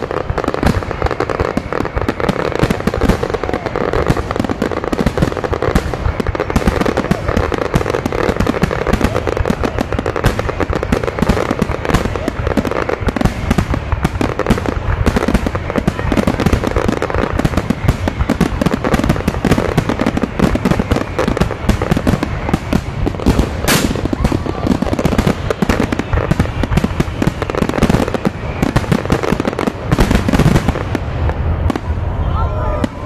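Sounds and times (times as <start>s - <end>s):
fireworks crackling and banging: 0.0s - 33.0s.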